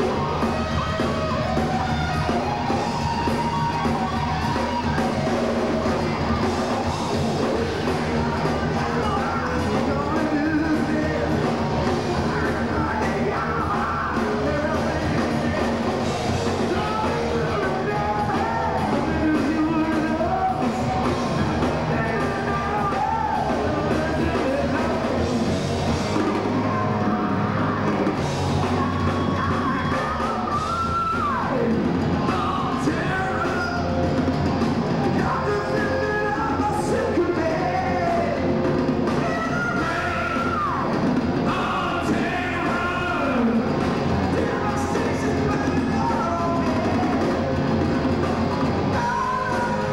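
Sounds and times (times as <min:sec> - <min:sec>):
electric guitar: 0:00.0 - 0:49.9
heavy metal band playing live: 0:00.0 - 0:49.9
man singing and yelling: 0:00.0 - 0:49.9.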